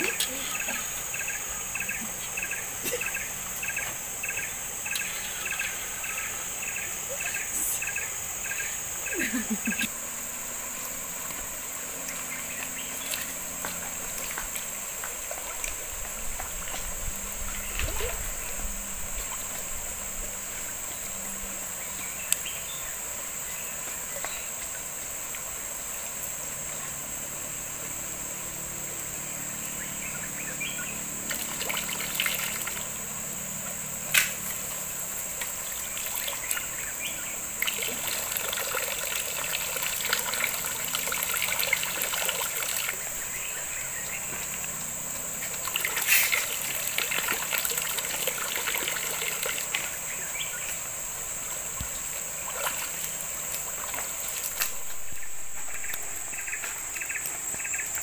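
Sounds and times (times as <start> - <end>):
forest insects droning: 0.0 - 58.0.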